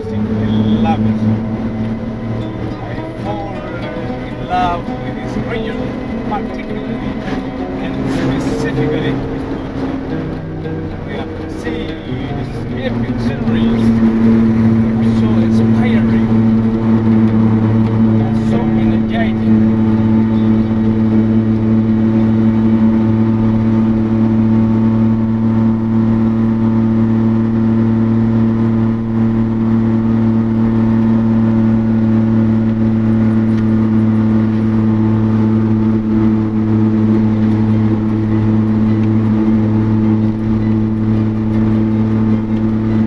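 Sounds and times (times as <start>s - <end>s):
vehicle engine droning inside cab: 0.0s - 43.0s.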